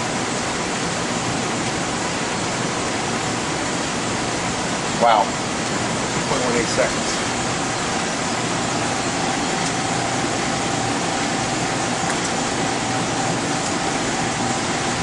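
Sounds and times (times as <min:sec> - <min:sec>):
ventilation hiss: 0:00.0 - 0:15.0
faint steady whine: 0:01.3 - 0:15.0.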